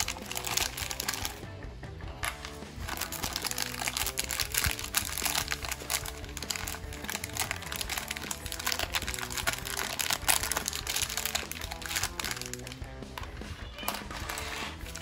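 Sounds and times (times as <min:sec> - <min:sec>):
plastic bag crinkling: 0:00.0 - 0:01.4, 0:02.2 - 0:15.0
background music: 0:00.0 - 0:15.0.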